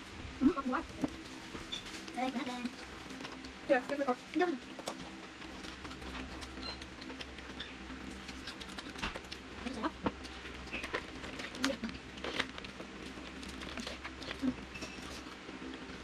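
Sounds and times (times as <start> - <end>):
low steady hum: 0.0 - 16.0
crispy food crackling while eaten: 0.5 - 16.0.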